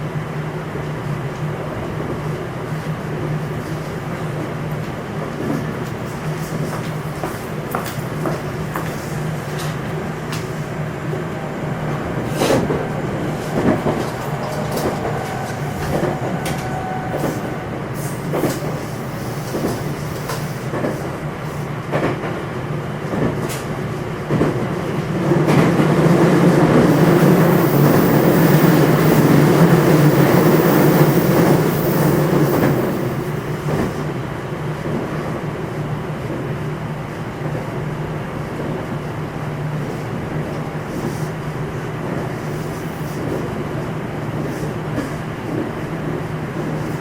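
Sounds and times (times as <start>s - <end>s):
train rolling hum: 0.0s - 47.0s.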